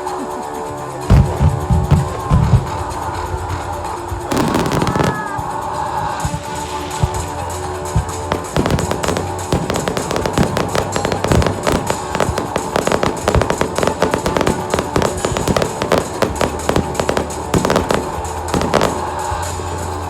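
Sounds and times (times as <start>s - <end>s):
fireworks bangs and crackles: 1.0s - 20.0s.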